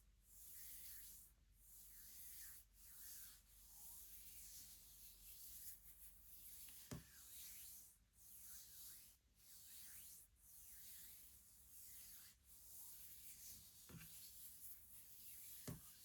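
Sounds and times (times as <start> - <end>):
soft rubbing swishes: 2.1 - 16.0.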